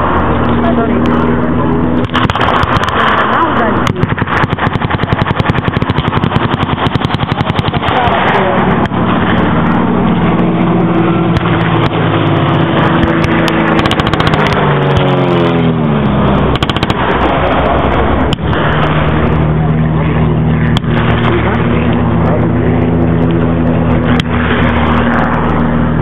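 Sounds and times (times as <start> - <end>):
heavy vehicle engine running: 0.0 - 26.0
gunshots: 2.0 - 10.4, 11.1 - 15.7, 16.5 - 25.6.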